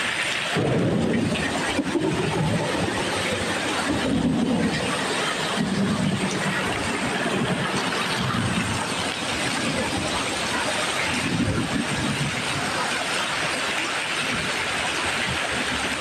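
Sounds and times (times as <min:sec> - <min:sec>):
hail splashing into pool: 0:00.0 - 0:16.0
hail striking surfaces: 0:00.0 - 0:16.0.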